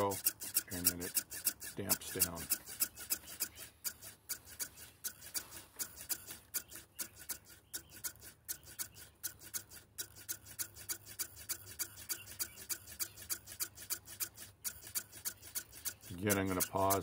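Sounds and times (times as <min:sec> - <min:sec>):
servos ticking: 0:00.0 - 0:17.0.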